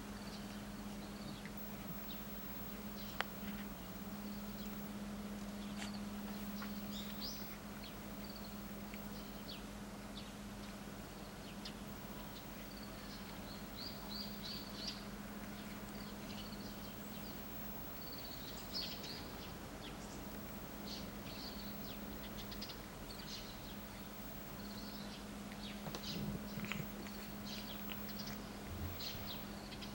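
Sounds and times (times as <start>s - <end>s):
small birds chirping: 0.0s - 29.9s
steady low hum: 0.0s - 29.9s.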